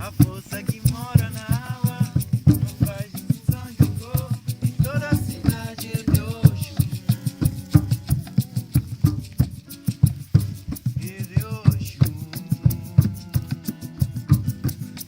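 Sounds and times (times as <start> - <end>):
person singing: 0.0 - 9.0, 11.0 - 14.8
fast drumbeat: 0.0 - 15.0
shaken rattles: 0.0 - 15.0.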